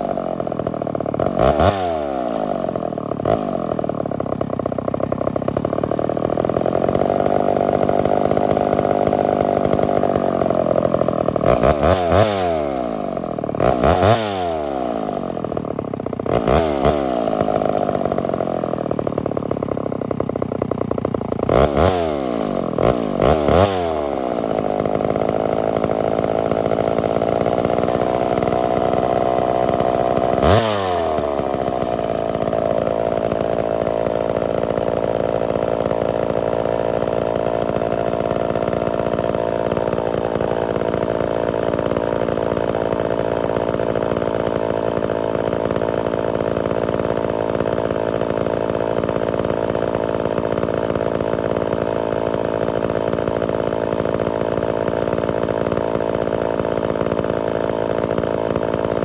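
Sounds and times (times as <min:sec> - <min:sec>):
chainsaw at full throttle: 0:00.0 - 0:59.0.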